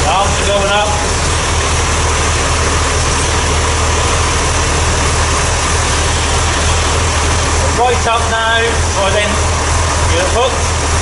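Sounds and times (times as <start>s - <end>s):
hydraulic lift arms raising: 0.0s - 11.0s
tractor diesel engine running: 0.0s - 11.0s.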